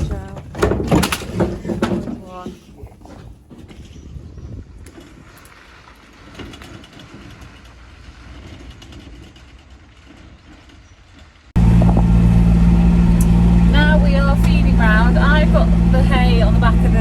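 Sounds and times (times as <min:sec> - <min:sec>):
utility vehicle engine running: 0:03.2 - 0:17.0.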